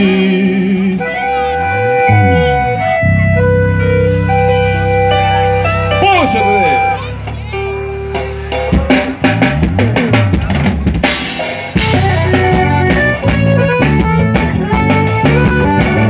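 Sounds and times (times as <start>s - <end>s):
drum kit fill: 0.0s - 16.0s
live rock band playing: 0.0s - 16.0s.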